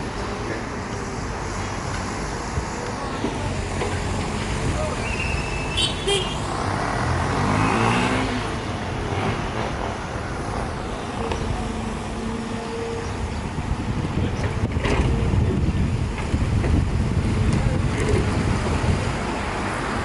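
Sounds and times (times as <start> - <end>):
vehicle engines running: 0.0 - 20.0.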